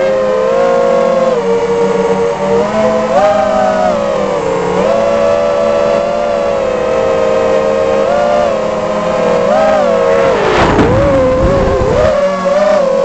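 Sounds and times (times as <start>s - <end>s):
quadcopter propellers whining: 0.0s - 13.0s.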